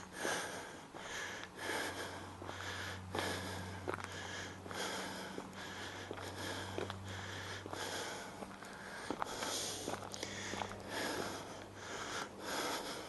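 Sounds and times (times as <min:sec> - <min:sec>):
footsteps on garden path: 0:00.0 - 0:12.8
steady low hum: 0:00.0 - 0:13.0.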